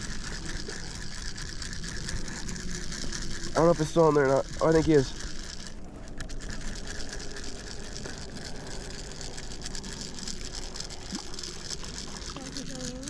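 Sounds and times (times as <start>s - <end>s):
fishing reel ticking: 0.0s - 13.0s.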